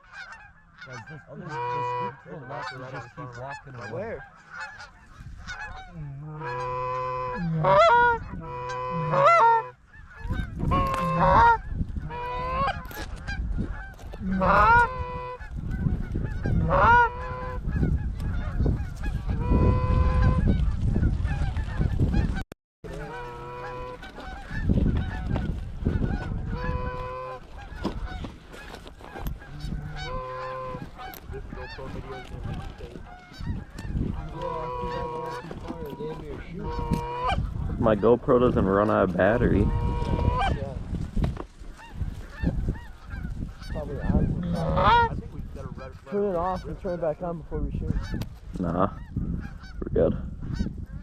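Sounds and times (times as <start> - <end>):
goose honking: 0.0 - 40.8, 41.7 - 50.8.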